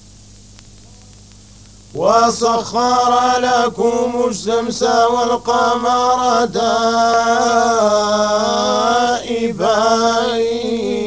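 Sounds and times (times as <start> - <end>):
men chanting melismatic recitation: 1.9 - 11.0.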